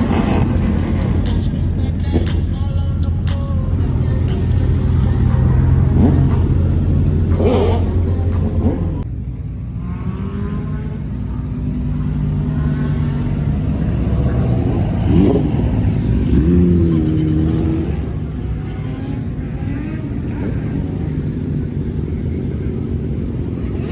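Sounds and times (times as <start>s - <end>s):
car engines running: 0.0s - 23.9s
engine revving: 0.0s - 23.9s.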